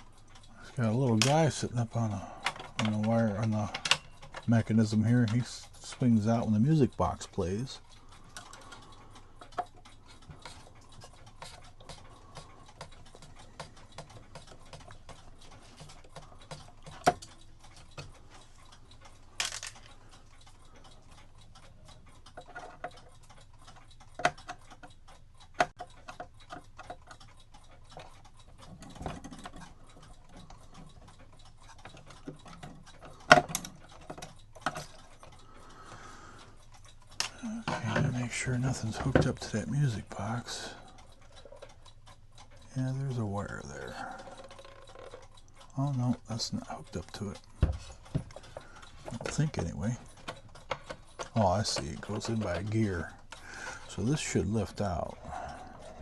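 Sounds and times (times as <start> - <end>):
metallic clicks and knocks: 0.0 - 35.4, 36.7 - 56.0
clock ticking: 0.0 - 56.0.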